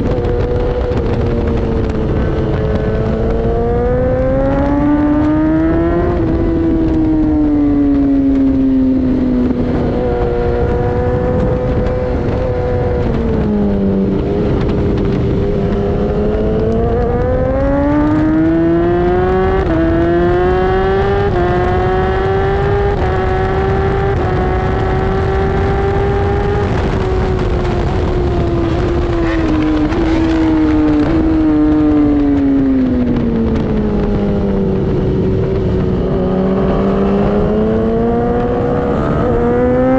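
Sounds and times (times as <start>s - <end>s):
motorcycle engine at full throttle: 0.0s - 39.9s
wind noise: 0.0s - 39.9s.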